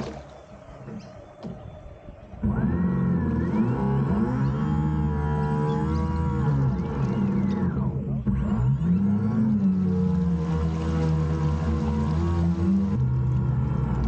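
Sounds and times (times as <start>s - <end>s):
model boat motor hum: 0.0s - 14.0s.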